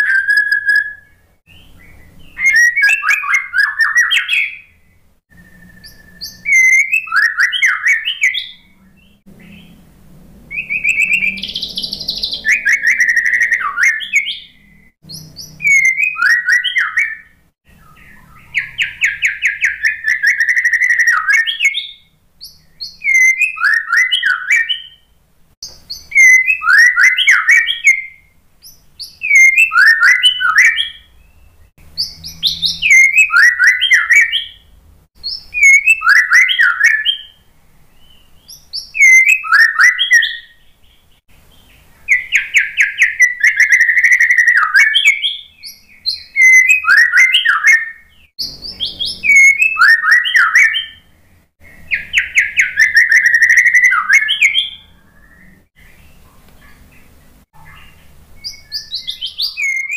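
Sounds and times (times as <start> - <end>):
bird singing whistles and trills: 0.0 - 9.8, 10.5 - 59.9.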